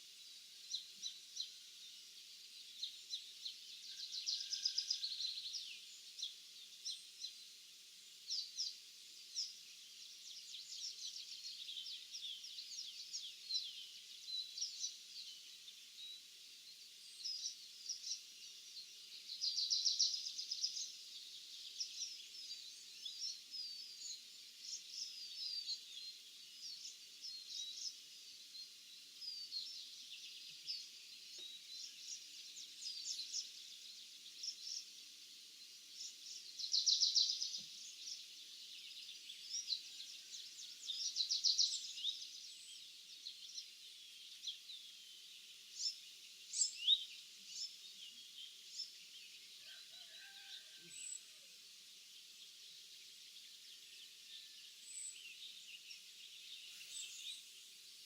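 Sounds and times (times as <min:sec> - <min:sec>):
steady high hiss: 0:00.0 - 0:49.7, 0:51.1 - 0:58.0
small birds singing and chirping: 0:00.0 - 0:58.0.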